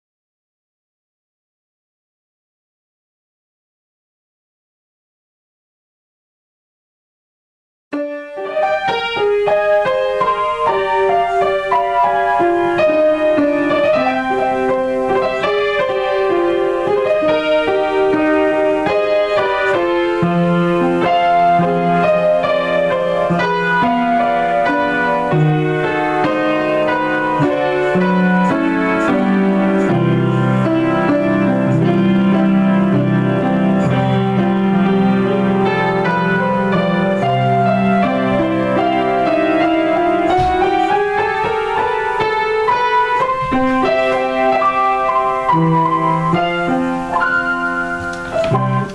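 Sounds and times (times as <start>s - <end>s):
solo grand piano: 7.9s - 48.9s.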